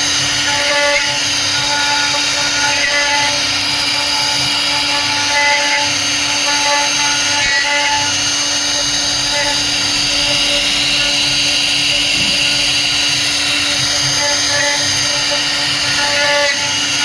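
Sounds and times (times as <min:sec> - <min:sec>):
router spindle whine carving wood: 0:00.0 - 0:17.0.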